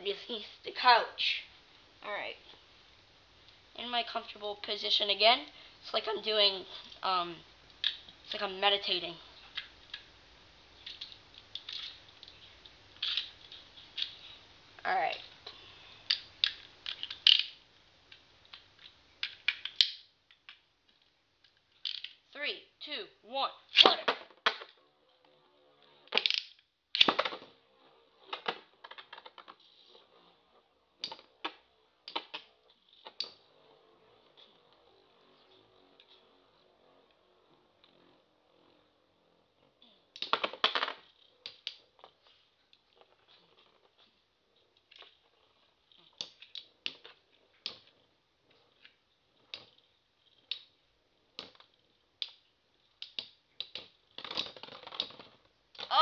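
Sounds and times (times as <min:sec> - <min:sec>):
faint spinning hum: 0:00.0 - 0:56.0.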